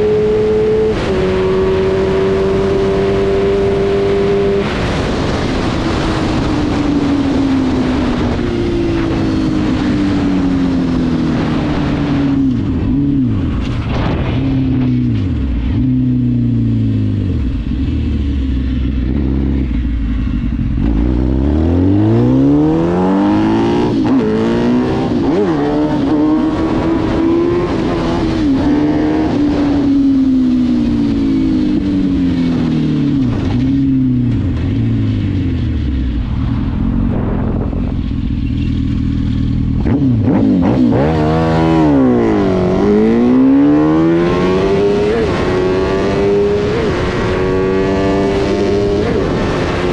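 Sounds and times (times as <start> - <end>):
quad engine accelerating: 0.0 - 49.9.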